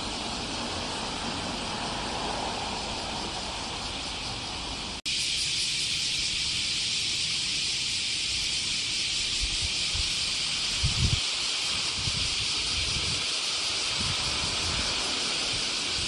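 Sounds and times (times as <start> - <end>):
cicadas shrilling: 0.0 - 16.0.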